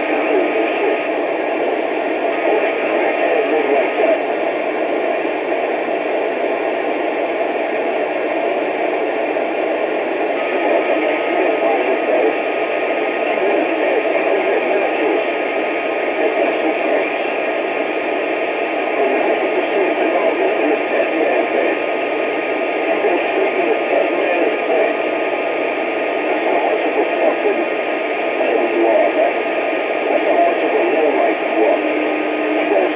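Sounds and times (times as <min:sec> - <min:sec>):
radio static hiss: 0:00.0 - 0:32.9.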